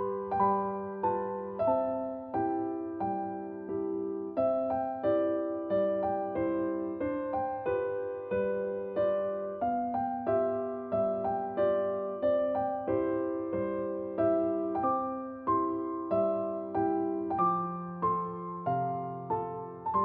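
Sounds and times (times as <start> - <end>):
gentle piano chords: 0.0 - 20.0.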